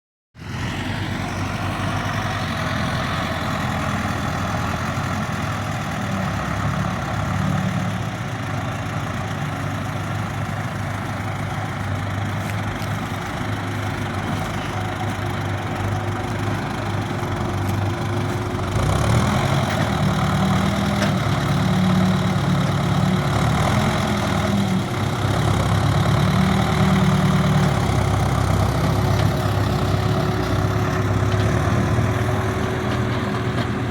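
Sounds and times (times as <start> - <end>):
heavy machinery engine running: 0.4 - 33.9.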